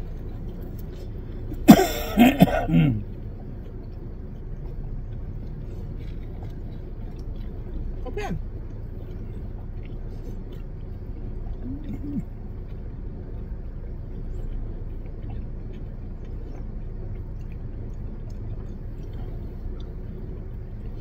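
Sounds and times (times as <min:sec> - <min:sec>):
low rumble inside car: 0:00.0 - 0:21.0
people chewing: 0:00.0 - 0:21.0.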